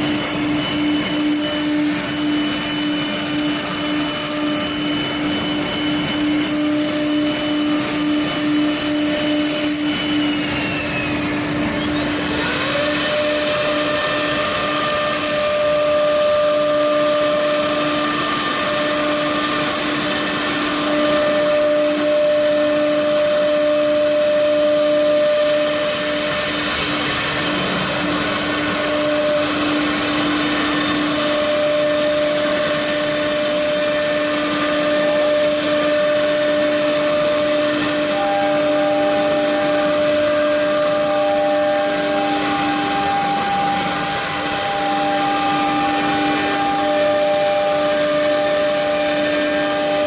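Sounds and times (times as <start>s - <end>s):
higher machine tone: 0.0s - 50.0s
router spindle whine: 0.0s - 50.0s.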